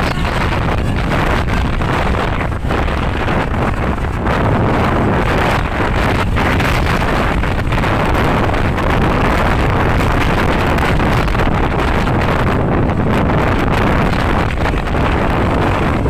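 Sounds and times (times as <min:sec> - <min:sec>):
vehicle engine and road noise: 0:00.0 - 0:16.0
wind buffeting microphone: 0:00.0 - 0:16.0.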